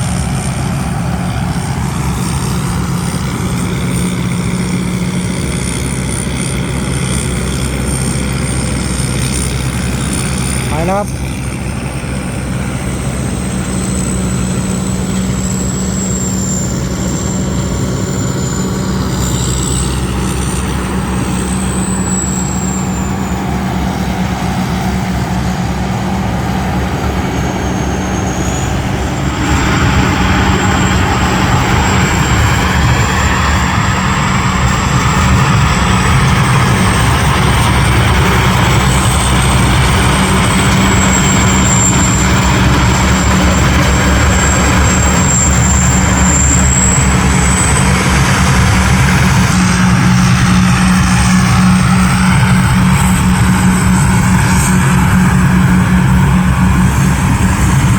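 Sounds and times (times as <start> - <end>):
combine harvester engine hum: 0.0 - 57.9
high wavering machine whine: 0.0 - 57.9
loud machinery rushing: 0.0 - 57.9.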